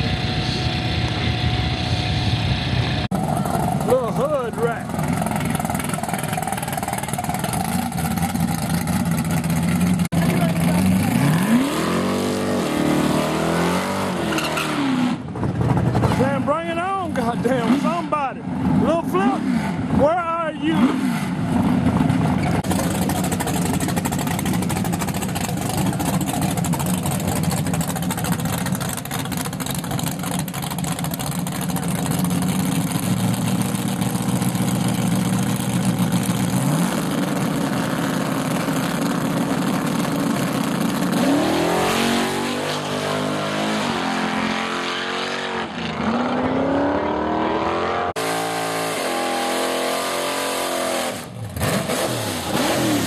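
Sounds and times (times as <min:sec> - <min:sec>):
drag racing engines revving: 0:00.0 - 0:53.0.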